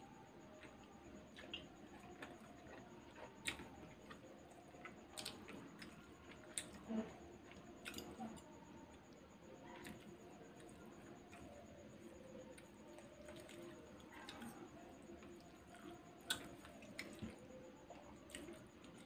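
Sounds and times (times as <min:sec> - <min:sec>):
faint chewing: 0:00.4 - 0:19.0.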